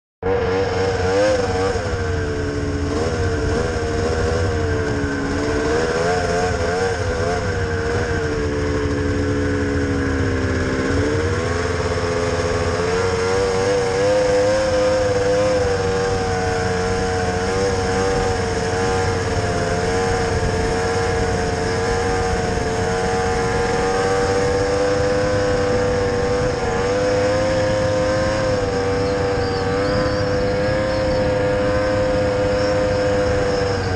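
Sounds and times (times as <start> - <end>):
snowmobile engine: 0.2 - 33.9.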